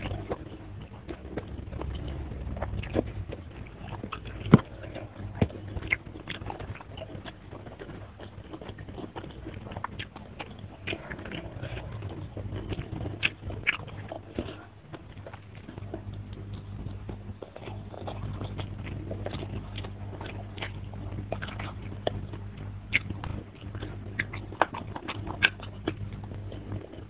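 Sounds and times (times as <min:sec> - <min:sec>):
chewing and mouth clicks: 0:00.0 - 0:27.0
low steady hum: 0:00.0 - 0:27.0
soft crackles of food: 0:00.0 - 0:27.0.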